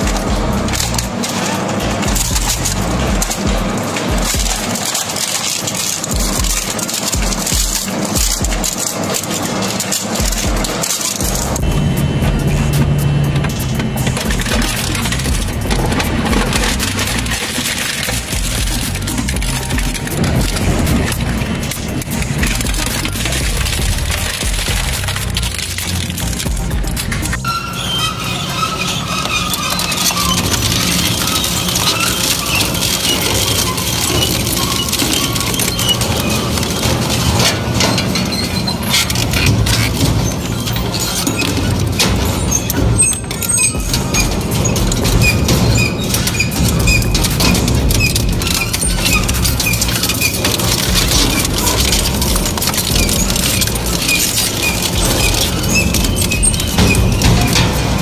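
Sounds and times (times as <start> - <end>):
crushing machine drone: 0.0 - 58.0
material cracking and clinking: 0.0 - 58.0
high squeaks: 8.8 - 58.0.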